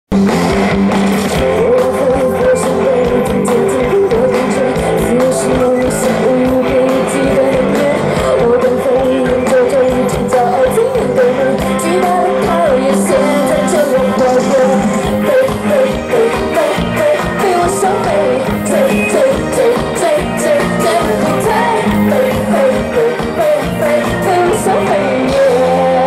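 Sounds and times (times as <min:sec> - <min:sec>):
guitar playing: 0:00.1 - 0:26.0
person singing: 0:01.2 - 0:26.0.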